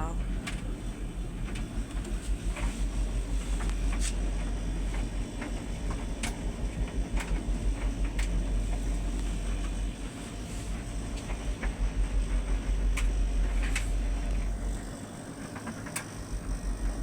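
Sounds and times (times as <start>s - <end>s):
tumble dryer humming: 0.0s - 17.0s.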